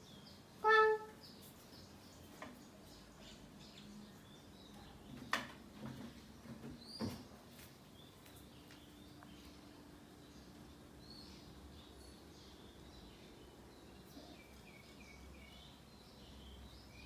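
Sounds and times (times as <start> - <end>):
faint high bird chirping: 0.0 - 5.3, 7.9 - 17.0.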